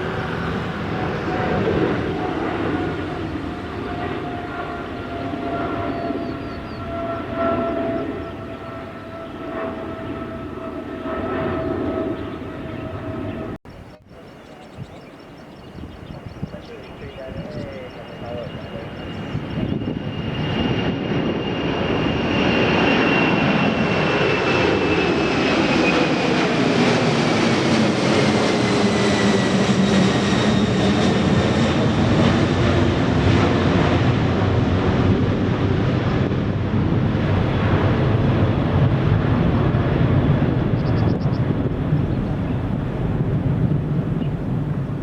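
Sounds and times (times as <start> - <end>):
high jet engine whine: 0.0 - 45.0
jet engines roaring at takeoff: 0.0 - 45.0.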